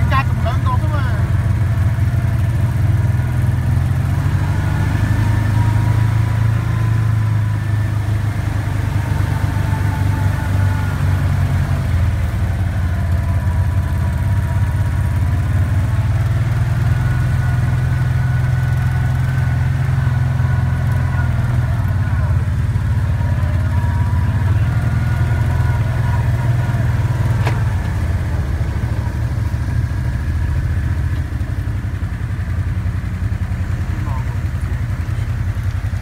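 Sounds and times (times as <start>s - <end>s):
utility vehicle engine droning: 0.0s - 36.0s.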